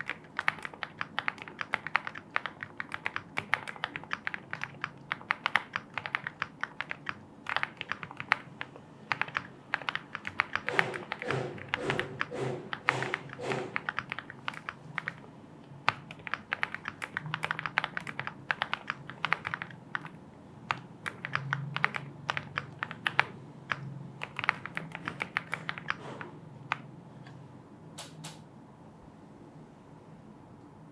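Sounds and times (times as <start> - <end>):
mechanical keyboard typing: 0.0 - 26.9.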